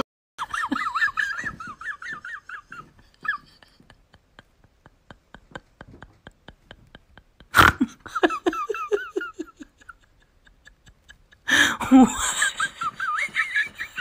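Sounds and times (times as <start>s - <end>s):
person laughing: 0.4s - 14.0s.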